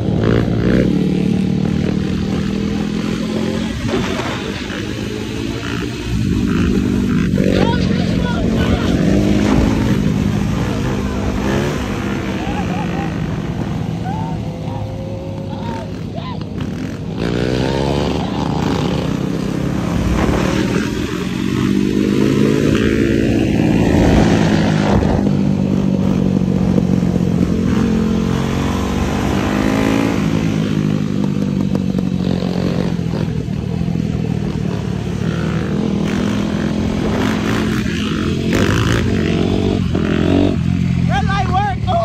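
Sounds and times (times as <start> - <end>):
quad engine revving: 0.0 - 42.0.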